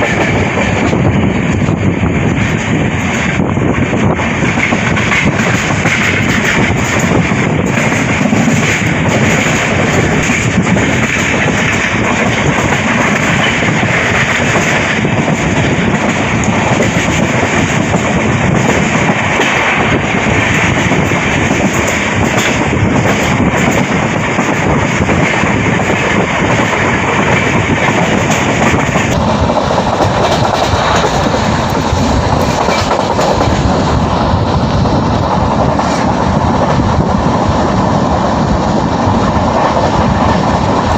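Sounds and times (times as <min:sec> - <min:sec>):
clickety-clack over rail joints: 0:00.0 - 0:40.9
train wheels rushing: 0:00.0 - 0:40.9.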